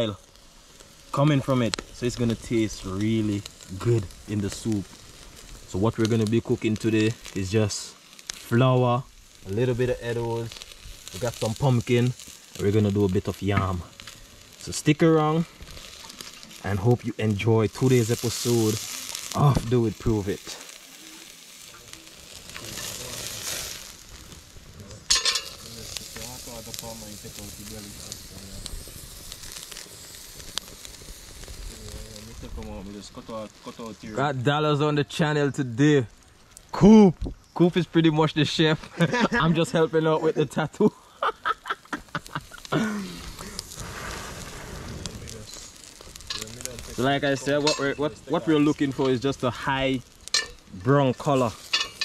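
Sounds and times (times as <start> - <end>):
coals hissing: 0.0 - 52.0
meat sizzling over charcoal: 0.0 - 52.0.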